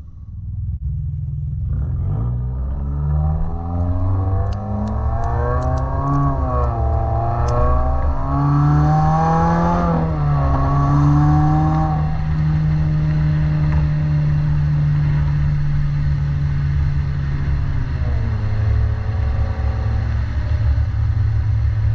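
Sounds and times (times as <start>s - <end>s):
car engine exhaust note: 0.0s - 21.9s.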